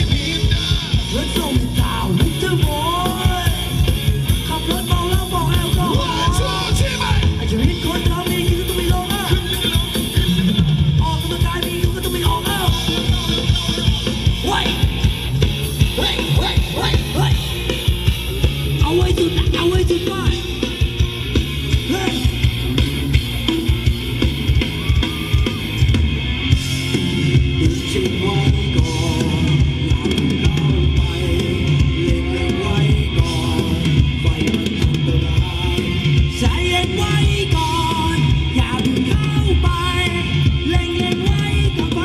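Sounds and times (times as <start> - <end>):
live band dance music: 0.0 - 42.0
steady drum beat: 0.0 - 42.0.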